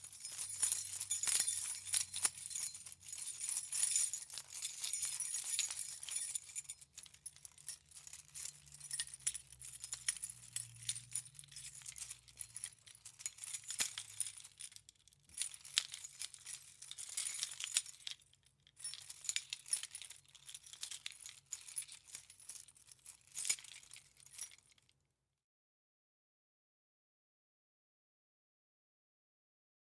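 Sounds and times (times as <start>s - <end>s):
keys jingling: 0.0s - 24.8s.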